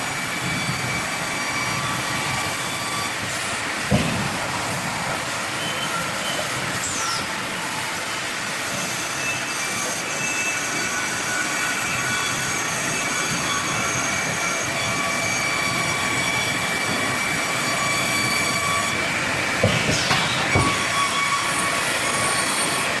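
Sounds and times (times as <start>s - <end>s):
saw cutting through wood: 0.0s - 23.0s.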